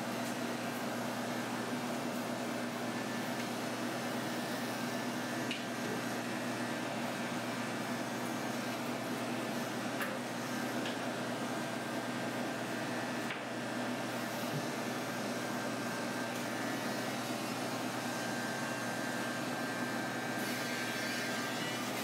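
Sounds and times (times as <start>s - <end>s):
electric clippers humming: 0.0s - 22.0s.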